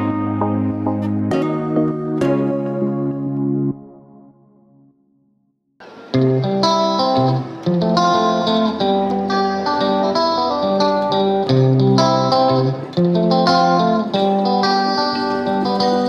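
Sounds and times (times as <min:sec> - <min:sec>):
background music with plucked guitar: 0:00.0 - 0:04.2, 0:06.1 - 0:16.0.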